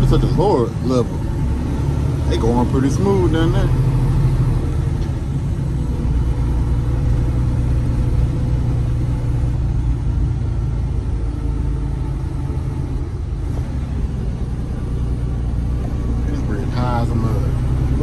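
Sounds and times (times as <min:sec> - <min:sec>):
road noise: 0:00.0 - 0:18.0
truck diesel engine rumbling: 0:00.0 - 0:18.0.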